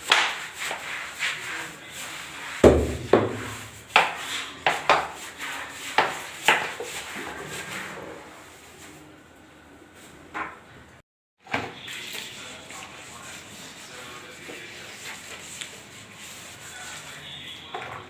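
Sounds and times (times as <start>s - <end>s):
brush scrubbing hard floor: 0.0s - 9.1s, 11.8s - 18.0s.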